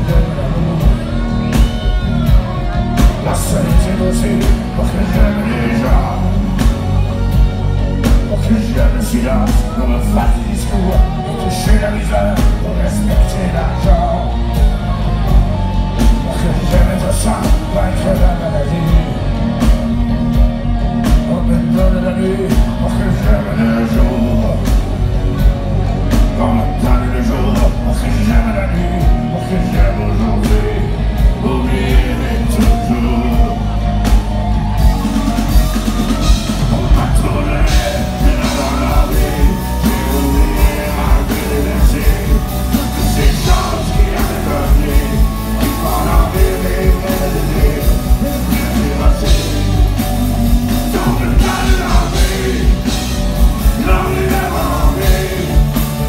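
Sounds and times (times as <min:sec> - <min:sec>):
man singing: 0:00.0 - 0:25.4, 0:26.1 - 0:35.0, 0:36.0 - 0:56.0
live rock band playing: 0:00.0 - 0:56.0.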